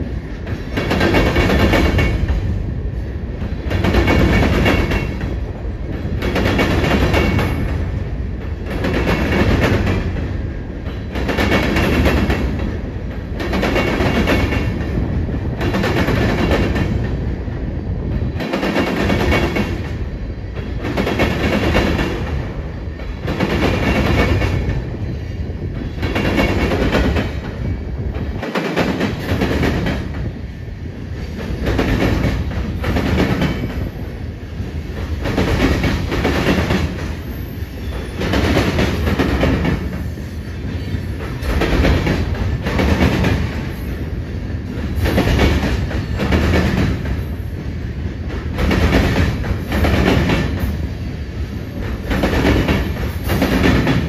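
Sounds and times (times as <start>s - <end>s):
train wheels clattering: 0.0s - 2.6s, 3.4s - 17.2s, 18.2s - 30.4s, 31.1s - 54.0s
train rumble: 0.0s - 54.0s.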